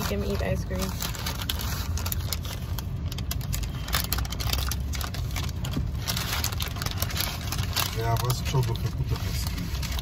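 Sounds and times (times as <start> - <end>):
low rumble inside car: 0.0 - 10.0
paper bag crinkling: 0.0 - 10.0.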